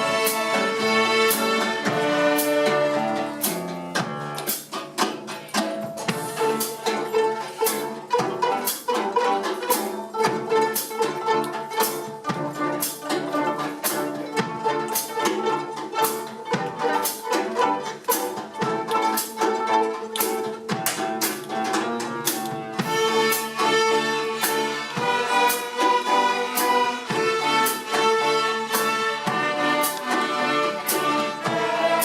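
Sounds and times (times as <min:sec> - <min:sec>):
string orchestra playing: 0:00.0 - 0:32.0.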